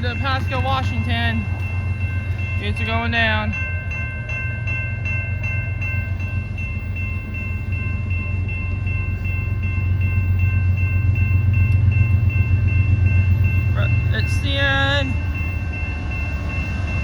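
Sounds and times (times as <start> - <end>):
freight train rumble: 0.0 - 17.0
railroad crossing bell ringing: 0.0 - 17.0.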